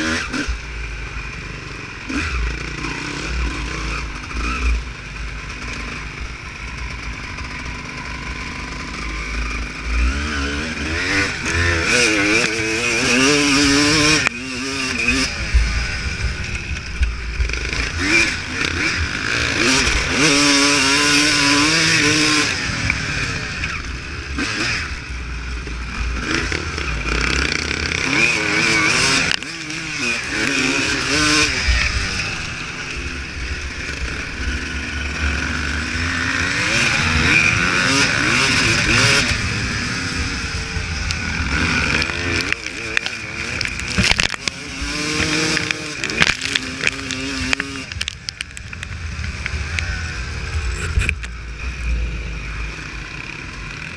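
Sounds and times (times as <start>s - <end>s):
motocross bike engine revving: 0.0s - 53.9s.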